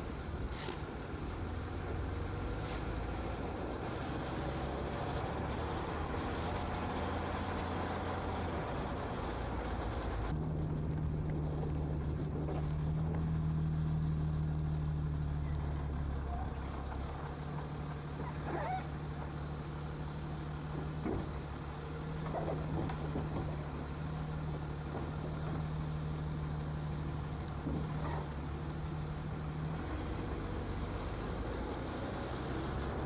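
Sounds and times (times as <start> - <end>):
road hiss: 0.0 - 10.4, 12.5 - 33.0
diesel truck engine running: 0.0 - 33.0.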